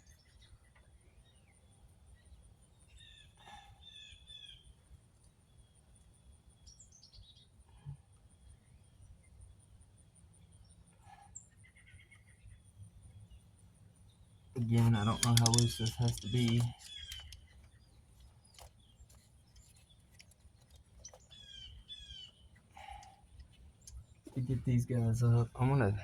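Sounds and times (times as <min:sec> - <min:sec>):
faint birds chirping: 0:00.0 - 0:26.0.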